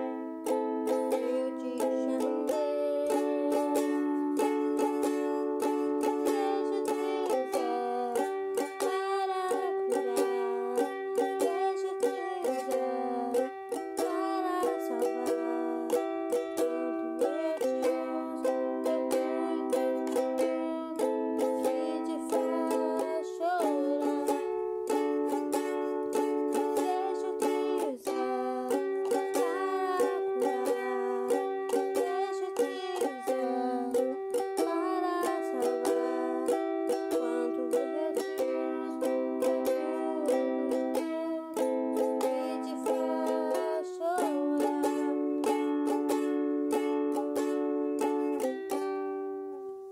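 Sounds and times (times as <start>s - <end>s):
woman singing softly: 0.0s - 48.9s
ukulele strumming: 0.0s - 49.9s.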